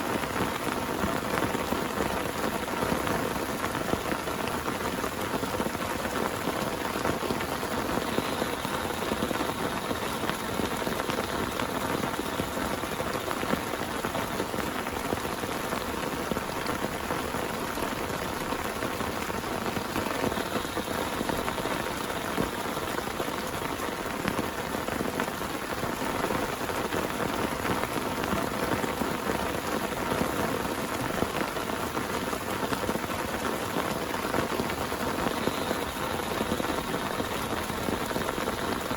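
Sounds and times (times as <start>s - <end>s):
heavy rain patter: 0.0s - 38.9s.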